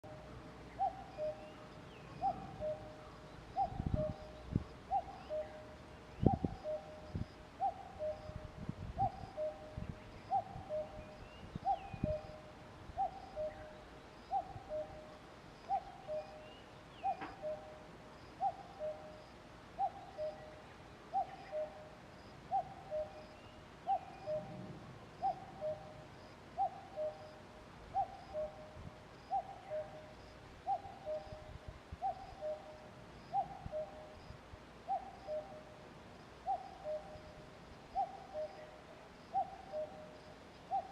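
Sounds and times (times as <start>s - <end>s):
cuckoo calling: 0.0s - 19.2s, 19.8s - 34.2s, 34.9s - 35.8s, 36.4s - 40.9s
faint bird chirps: 0.0s - 40.9s.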